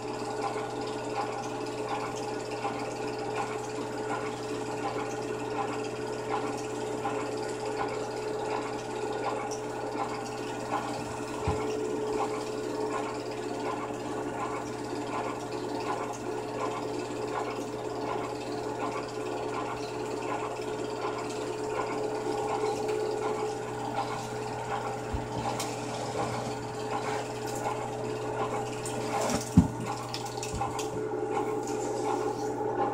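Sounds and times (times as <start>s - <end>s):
film projector whirring and clattering: 0.0s - 32.9s.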